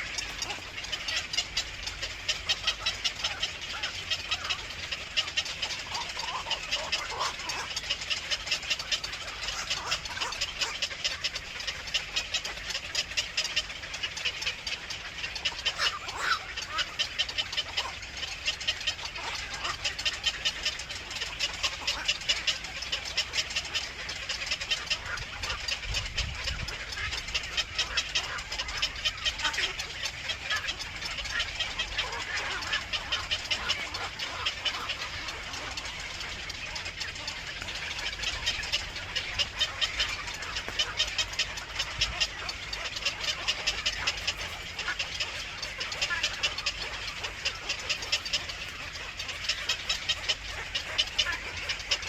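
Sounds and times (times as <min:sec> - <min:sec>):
birds chirping rapidly: 0:00.0 - 0:52.0.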